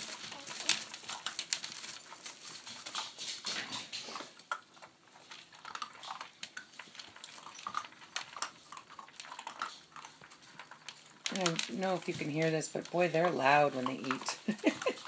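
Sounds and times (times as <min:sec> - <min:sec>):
puppies crunching dry food: 0:00.0 - 0:15.0.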